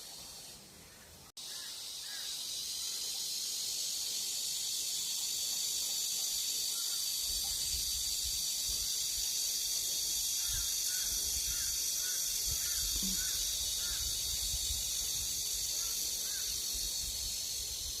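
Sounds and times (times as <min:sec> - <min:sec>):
cicada buzzing: 0:01.4 - 0:18.0.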